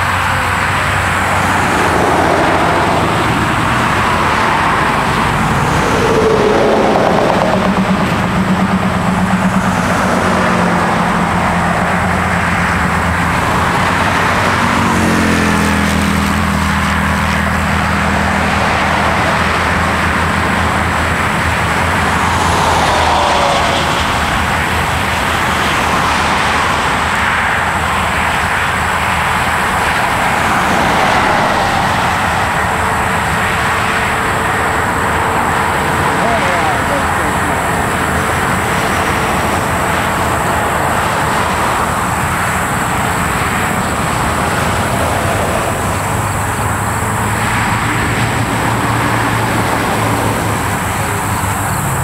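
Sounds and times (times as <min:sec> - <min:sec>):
car engine: 0:00.0 - 0:52.0
road noise: 0:00.0 - 0:52.0.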